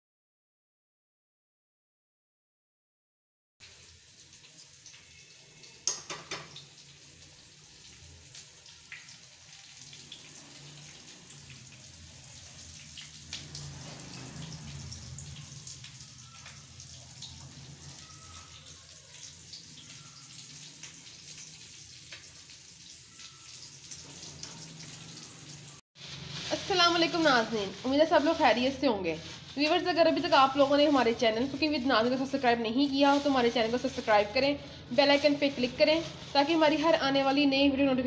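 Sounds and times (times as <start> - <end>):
hot oil sizzling: 3.6 - 37.5.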